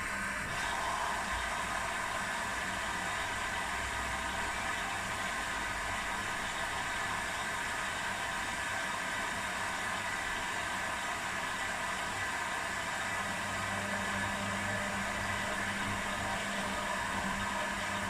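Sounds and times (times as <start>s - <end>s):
washing machines whirring: 0.0s - 18.0s.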